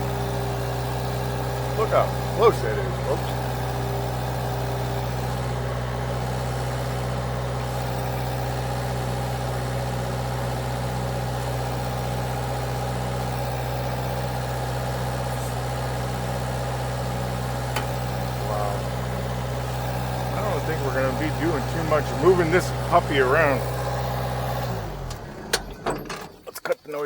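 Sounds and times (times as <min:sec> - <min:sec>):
engine idling: 0:00.0 - 0:26.8.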